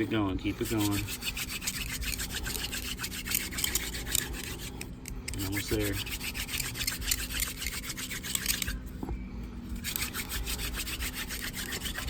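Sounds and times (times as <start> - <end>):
wooden spindle rubbing in hearth: 0.0 - 8.8, 9.8 - 12.0.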